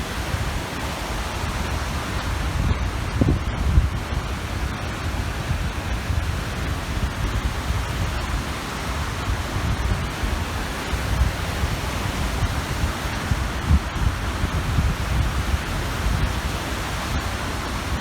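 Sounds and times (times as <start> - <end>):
small waves washing onto shore: 0.0 - 18.0
wind gusting on microphone: 0.0 - 18.0.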